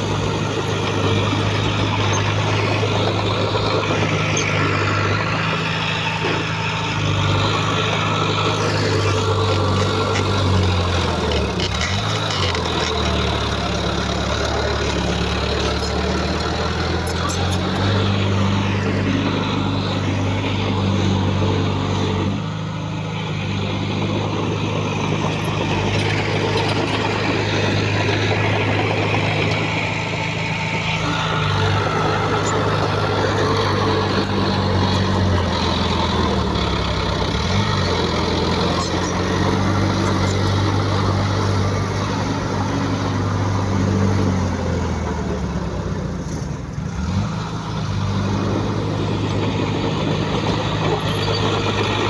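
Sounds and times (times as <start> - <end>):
diesel machinery engine: 0.0 - 52.0.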